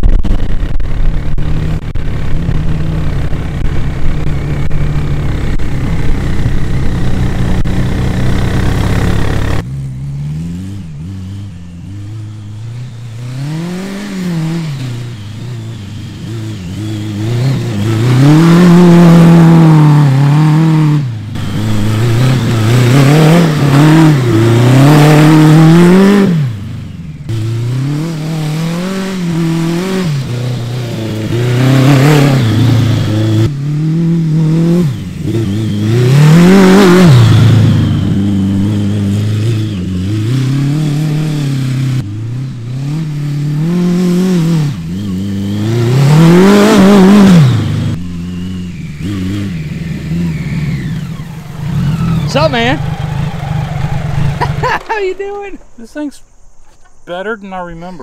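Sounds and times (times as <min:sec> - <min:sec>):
kart engine revving: 0:00.3 - 0:57.2.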